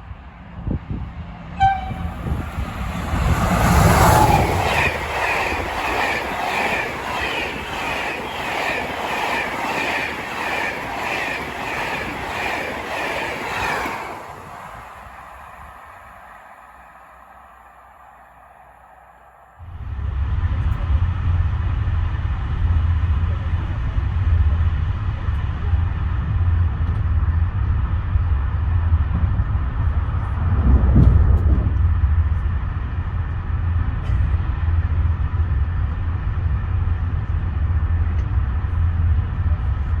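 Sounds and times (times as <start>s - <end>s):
train rumbling: 0.0s - 40.0s.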